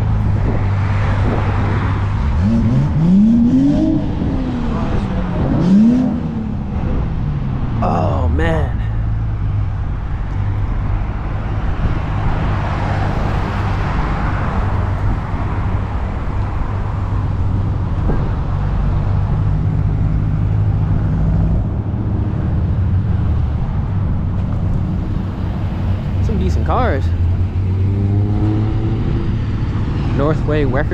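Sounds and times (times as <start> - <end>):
car engines idling: 0.0 - 28.2, 29.0 - 30.9.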